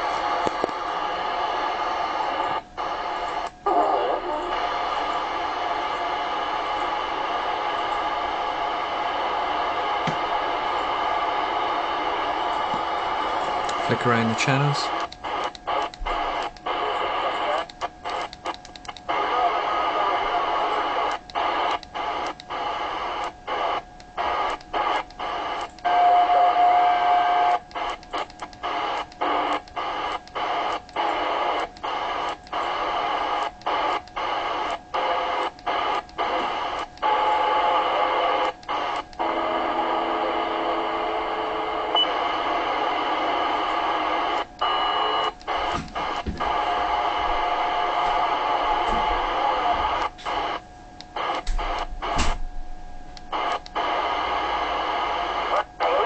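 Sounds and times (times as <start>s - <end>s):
steady radio whistle: 0.0s - 18.2s, 19.1s - 50.6s, 51.2s - 52.4s, 53.3s - 56.0s
radio static and hiss: 0.0s - 56.0s
weak radio tones: 0.0s - 56.0s.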